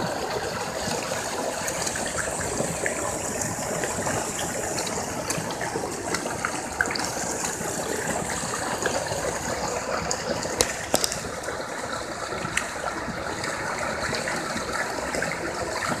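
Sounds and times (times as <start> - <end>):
fish splashing in water: 0.0 - 16.0.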